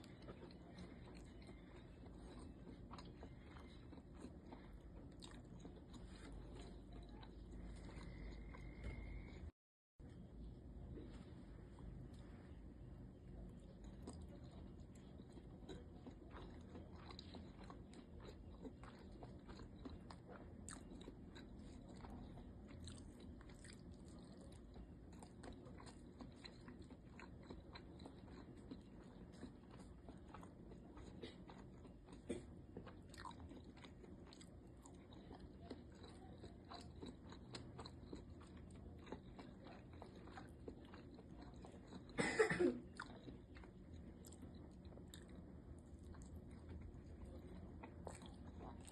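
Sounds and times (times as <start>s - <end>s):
person chewing: 0.0s - 9.5s, 11.0s - 42.2s, 42.8s - 48.9s.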